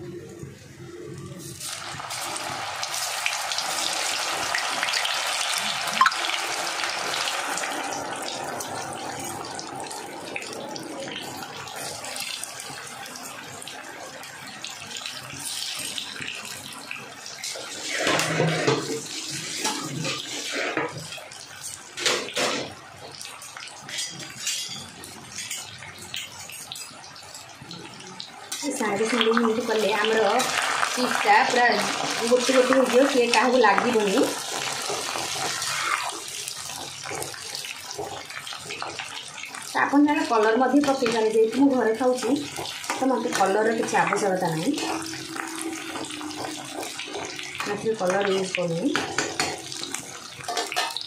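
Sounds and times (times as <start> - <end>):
food sizzling in hot oil: 0.2 - 51.0.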